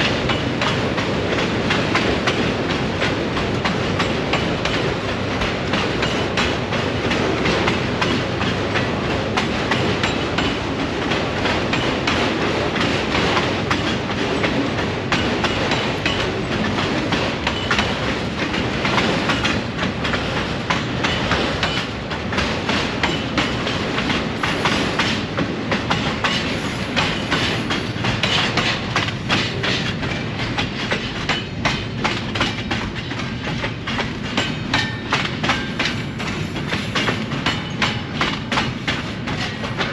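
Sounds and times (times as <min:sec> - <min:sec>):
train rumbling past: 0:00.0 - 0:39.9
wheels clicking over rail joints: 0:00.0 - 0:39.9.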